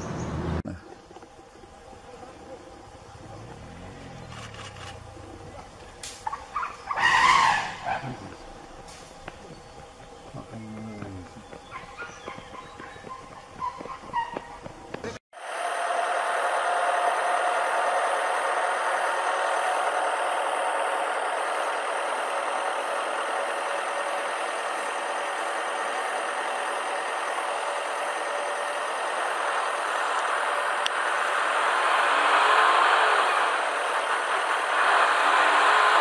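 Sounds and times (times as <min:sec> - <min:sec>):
truck engines in traffic: 0:00.0 - 0:00.8, 0:02.5 - 0:10.5, 0:14.8 - 0:36.0.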